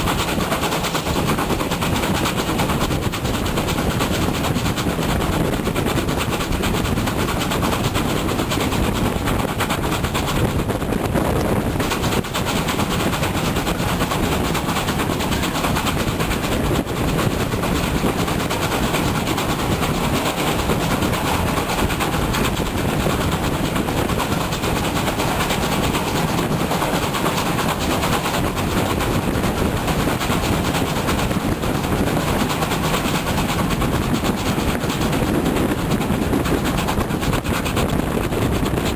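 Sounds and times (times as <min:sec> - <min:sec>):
steam locomotive and train running: 0:00.0 - 0:38.9
wind buffeting microphone: 0:00.0 - 0:38.9.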